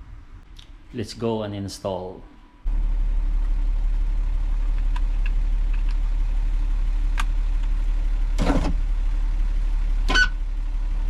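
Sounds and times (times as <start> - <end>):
steady low car hum: 0.0 - 1.6, 2.2 - 11.0.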